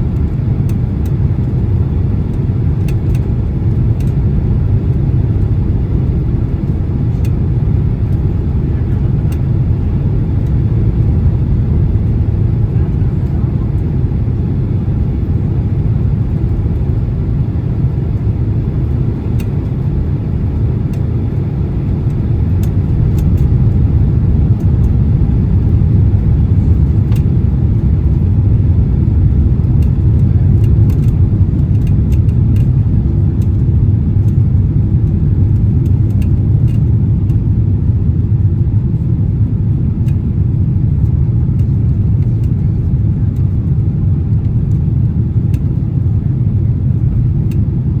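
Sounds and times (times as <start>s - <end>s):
aircraft cabin engine roar: 0.0s - 48.0s.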